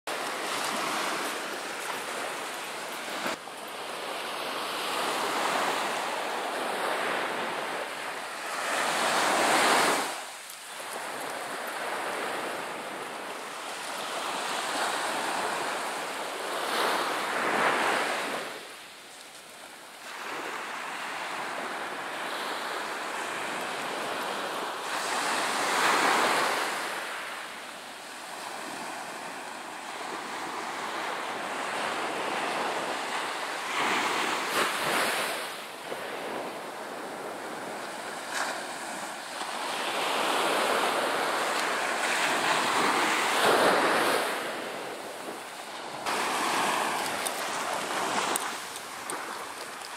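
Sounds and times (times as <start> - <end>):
waves breaking on a beach: 0.1 - 49.9.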